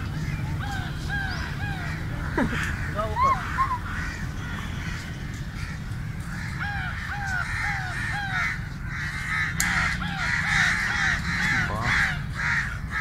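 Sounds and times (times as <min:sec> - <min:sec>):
crows cawing: 0:00.0 - 0:13.0
steady low rumble: 0:00.0 - 0:13.0.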